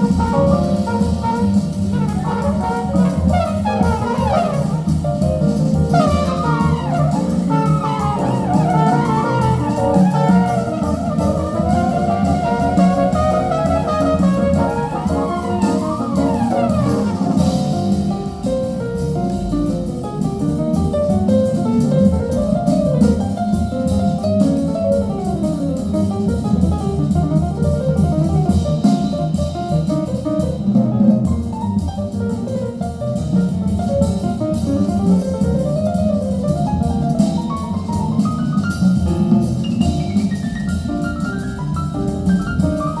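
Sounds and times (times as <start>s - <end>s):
jazz music over loudspeakers: 0.0s - 43.0s.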